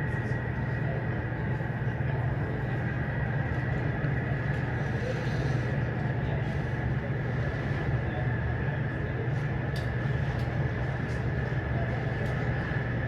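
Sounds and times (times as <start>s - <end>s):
thin steady high whine: 0.0s - 13.0s
ventilation airflow drone: 0.0s - 13.0s.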